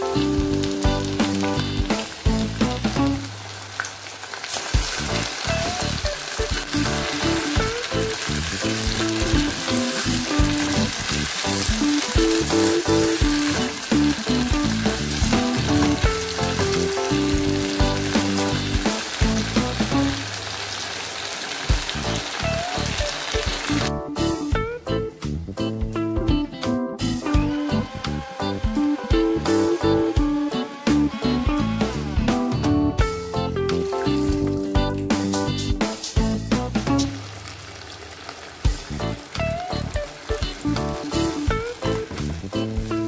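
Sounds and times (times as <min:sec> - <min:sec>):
background music: 0:00.0 - 0:03.7, 0:04.7 - 0:20.5, 0:21.7 - 0:37.3, 0:38.7 - 0:43.0
chicken sizzling in hot oil: 0:00.0 - 0:24.6, 0:27.0 - 0:32.3, 0:32.9 - 0:43.0.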